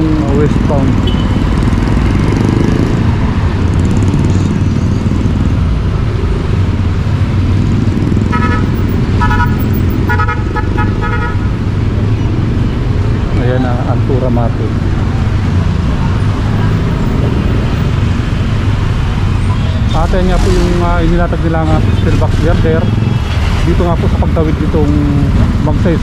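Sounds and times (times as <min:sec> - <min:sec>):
motorcycle engine and road rumble: 0:00.0 - 0:26.0.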